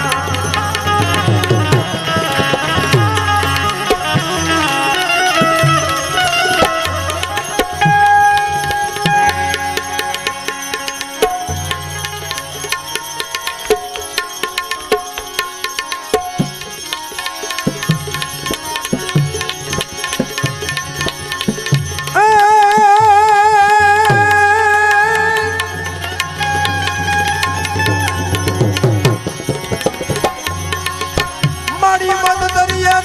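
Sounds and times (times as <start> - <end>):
melodic accompaniment: 0.0 - 33.0
tabla rhythm: 0.0 - 33.0.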